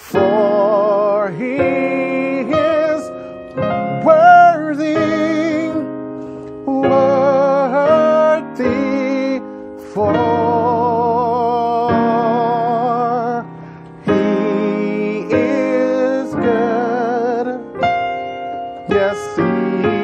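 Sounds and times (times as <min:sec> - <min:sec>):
gospel piano chords: 0:00.0 - 0:20.0
man singing with vibrato: 0:00.0 - 0:20.0.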